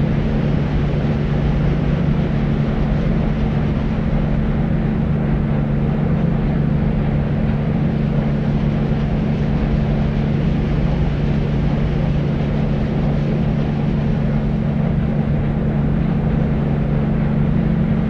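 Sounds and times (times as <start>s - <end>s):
constant low hum: 0.0s - 18.0s
deep white noise: 0.0s - 18.0s.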